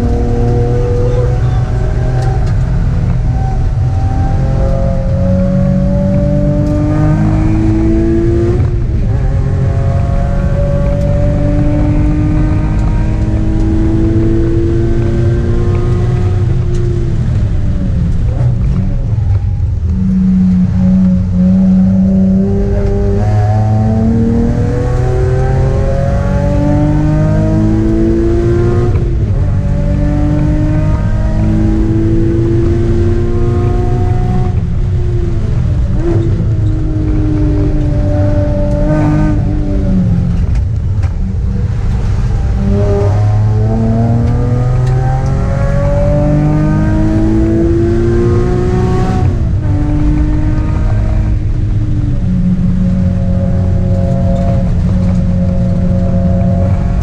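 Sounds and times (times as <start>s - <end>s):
car engine revving under acceleration: 0.0s - 57.0s.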